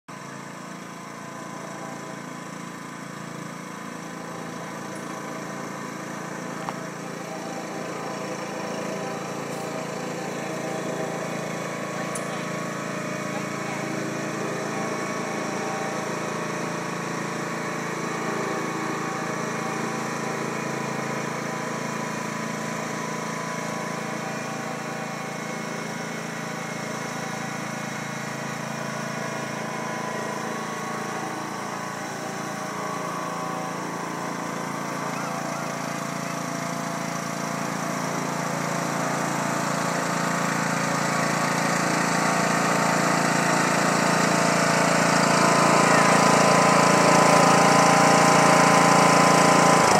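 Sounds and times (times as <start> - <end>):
tractor engine running: 0.1 - 49.9.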